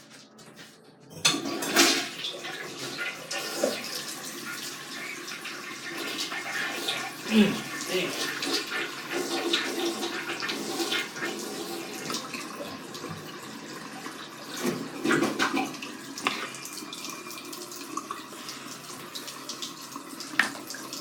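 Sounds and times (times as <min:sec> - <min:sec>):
water running and splashing: 0:01.4 - 0:21.0.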